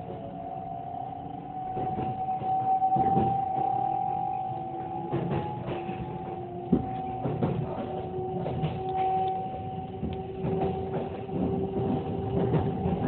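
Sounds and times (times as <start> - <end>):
train rolling rumble: 0.0 - 13.0
two-note whine: 0.0 - 13.0.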